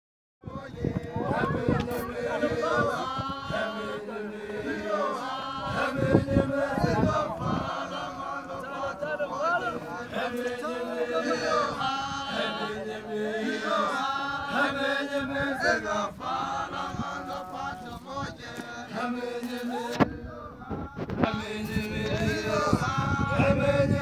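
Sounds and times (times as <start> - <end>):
group of voices chanting: 0.4 - 24.0.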